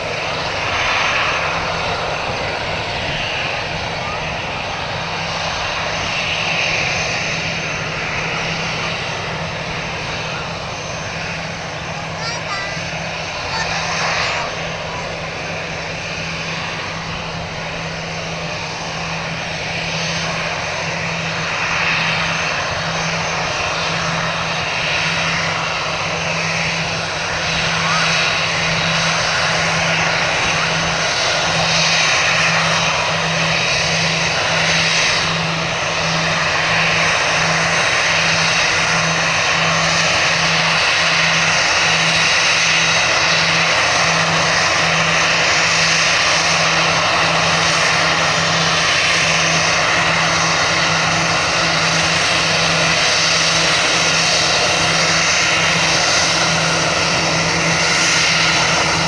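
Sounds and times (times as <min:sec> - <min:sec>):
jet engines whine and rush: 0:00.0 - 0:59.0.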